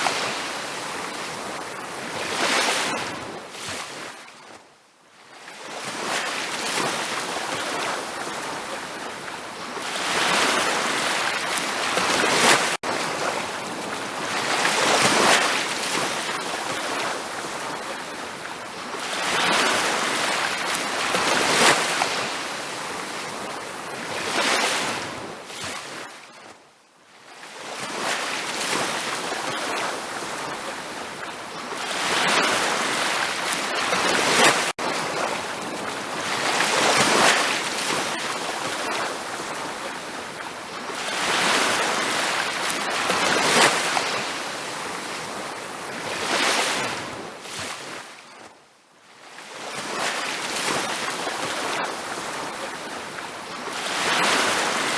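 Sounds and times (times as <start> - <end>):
ocean waves washing onto beach: 0.0 - 4.6, 5.2 - 26.5, 27.3 - 48.5, 49.2 - 54.9.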